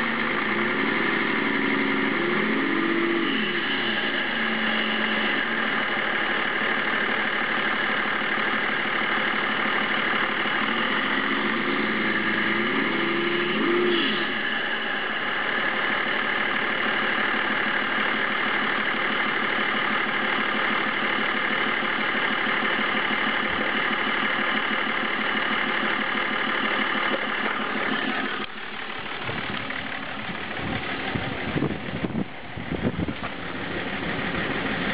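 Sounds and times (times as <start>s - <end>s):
diesel engine idling with clatter: 0.0s - 34.9s.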